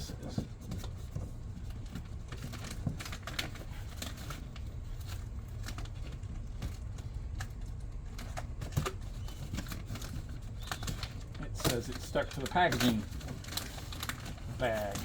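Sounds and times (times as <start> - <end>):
packaging clicking and crinkling: 0.1 - 15.0.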